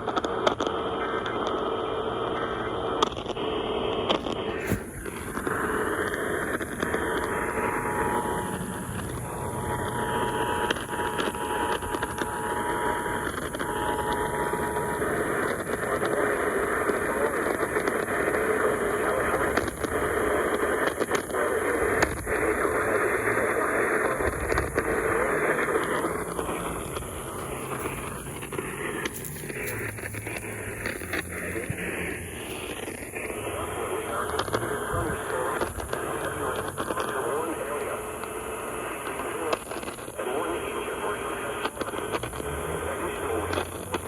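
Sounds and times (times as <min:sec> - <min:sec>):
radio static hissing: 0:00.0 - 0:44.0.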